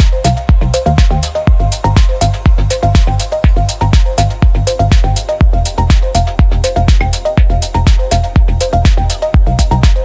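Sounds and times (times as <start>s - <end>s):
low bass: 0.0s - 10.0s
steady drum beat: 0.0s - 10.0s.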